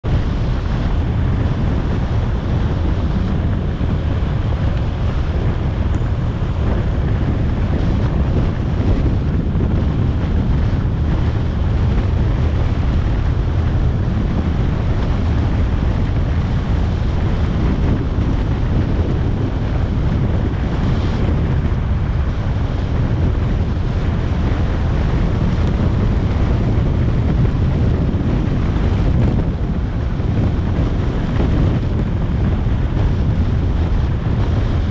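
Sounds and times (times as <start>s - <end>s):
motorcycle and road rumble: 0.0s - 34.9s
wind on microphone: 0.0s - 34.9s.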